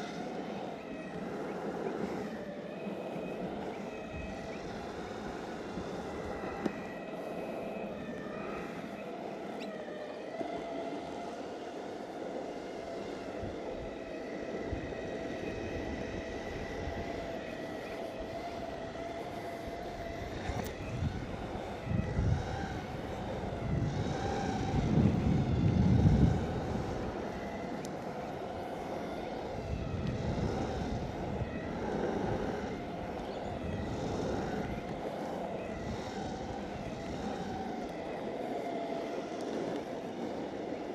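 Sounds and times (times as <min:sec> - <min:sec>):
electric motor whine: 0:00.0 - 0:40.9
wheels rolling on asphalt: 0:00.0 - 0:40.9.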